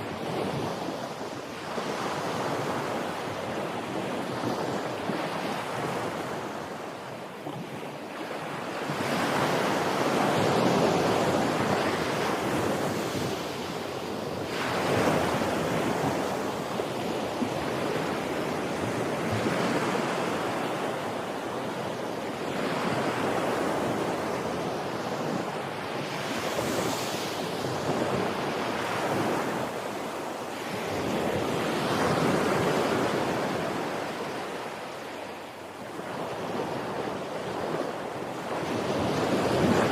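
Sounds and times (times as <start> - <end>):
wind noise on microphone: 0.0 - 34.8, 35.8 - 39.9
sea waves washing on shore: 0.0 - 39.9.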